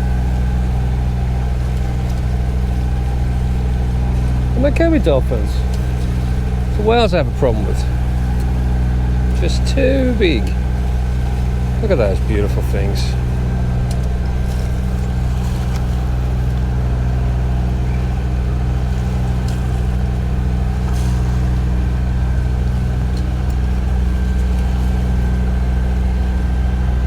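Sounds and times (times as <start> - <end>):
boat motor droning: 0.0 - 27.0.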